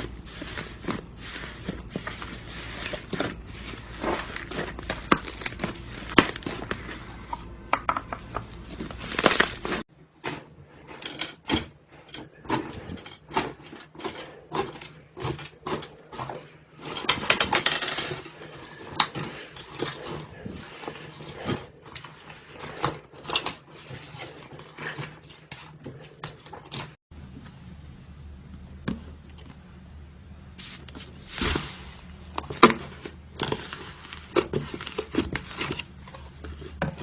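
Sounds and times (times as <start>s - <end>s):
low background hum: 0.0s - 37.0s.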